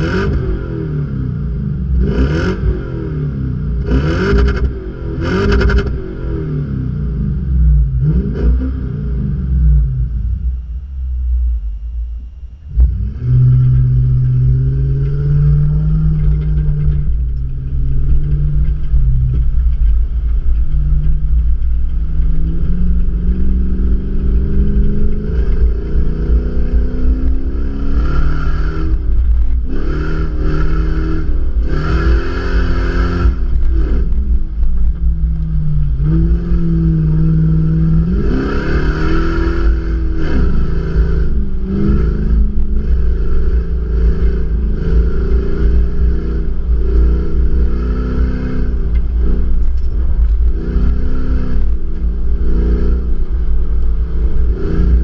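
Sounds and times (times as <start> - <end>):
car engine revving under load: 0.0 - 55.0
wind rumble on camera: 0.0 - 55.0.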